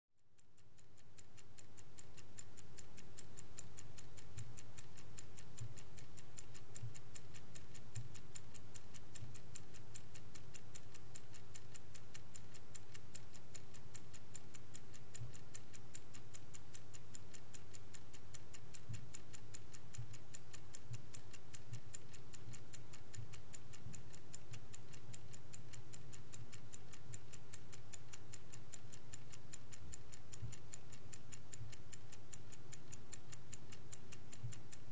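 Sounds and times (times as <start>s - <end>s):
faint steady hum: 0.2s - 34.9s
clock ticking: 0.3s - 34.9s.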